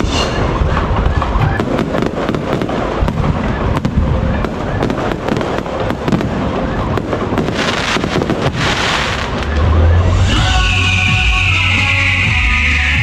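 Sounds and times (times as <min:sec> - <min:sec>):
loud crackling hiss: 0:00.0 - 0:06.4, 0:07.1 - 0:13.0
fireworks crackling and popping: 0:00.0 - 0:13.0
low drone: 0:00.0 - 0:13.0.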